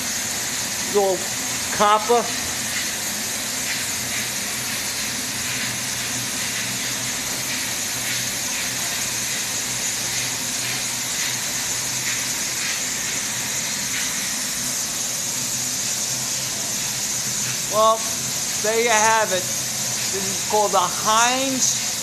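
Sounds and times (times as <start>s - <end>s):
high hiss: 0.0s - 22.0s.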